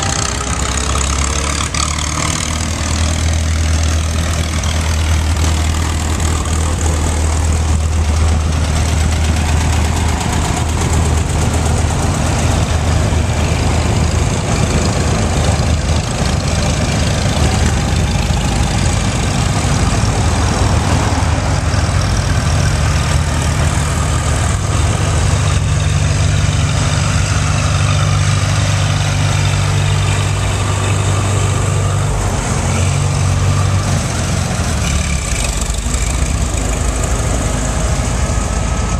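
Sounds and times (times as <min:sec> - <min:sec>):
tractor engines driving past: 0:00.0 - 0:38.9.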